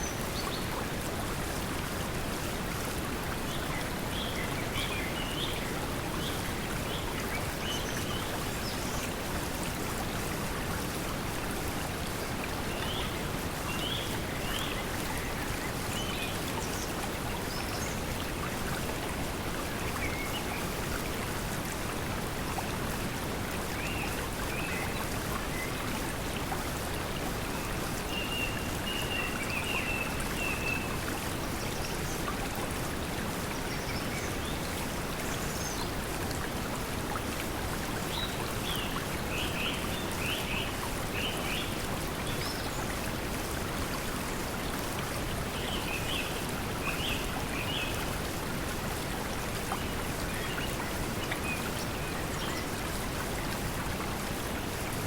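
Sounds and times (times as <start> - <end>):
flowing water: 0.0 - 55.0.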